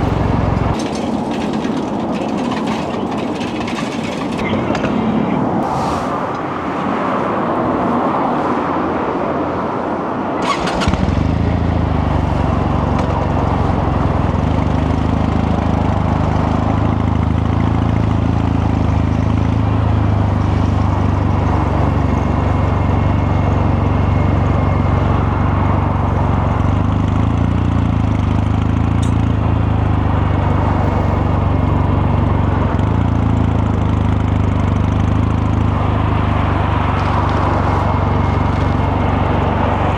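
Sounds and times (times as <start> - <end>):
motorcycle engine starting and idling: 0.0 - 5.0, 10.4 - 39.9.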